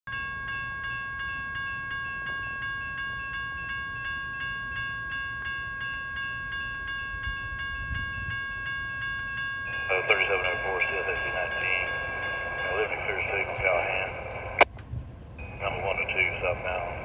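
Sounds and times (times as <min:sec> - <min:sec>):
crossing warning bell ringing: 0:00.1 - 0:17.0.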